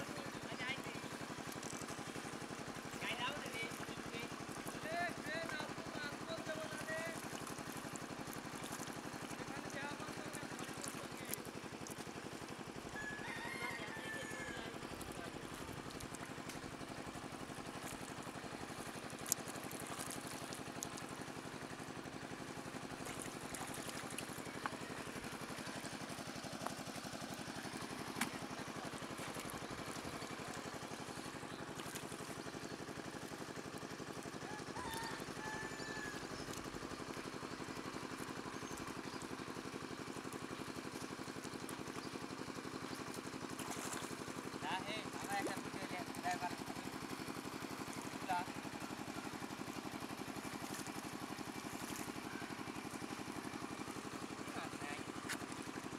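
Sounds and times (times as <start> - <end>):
steady engine hum: 0.0 - 55.9.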